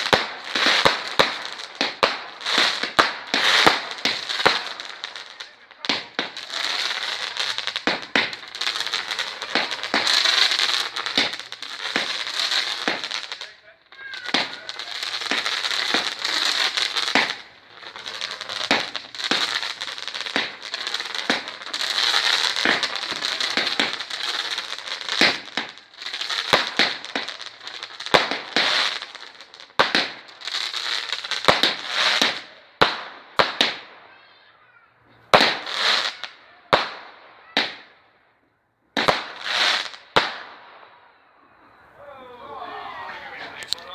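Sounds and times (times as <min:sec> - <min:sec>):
fireworks crackling and banging: 0:00.0 - 0:43.9.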